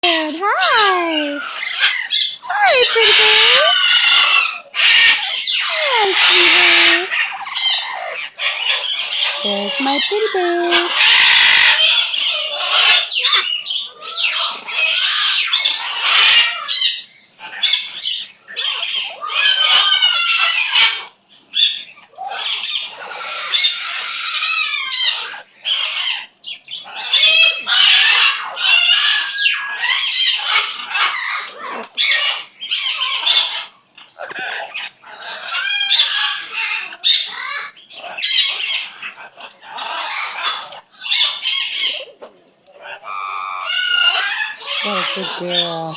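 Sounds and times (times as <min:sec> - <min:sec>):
bird warbling and squawking: 0:00.1 - 0:45.9.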